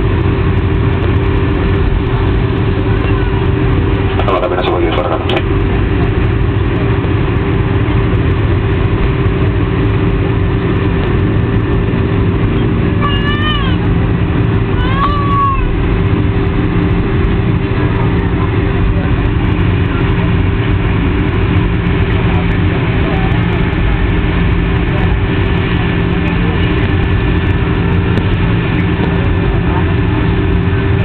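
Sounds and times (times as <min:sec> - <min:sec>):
jet engines in airliner cabin: 0:00.0 - 0:31.0
steady hum: 0:00.0 - 0:31.0.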